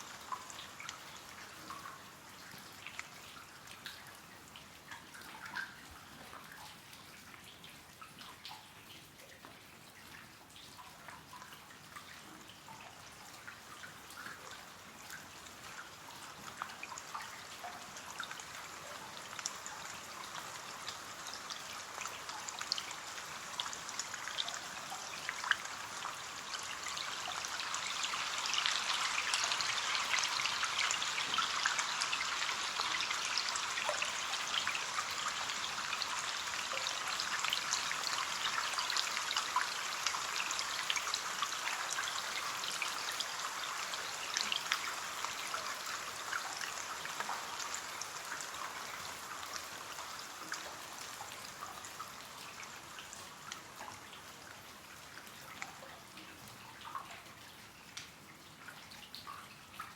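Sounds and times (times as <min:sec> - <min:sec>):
rain on window glass: 0:00.0 - 0:59.9
raindrops ticking: 0:00.0 - 0:59.9.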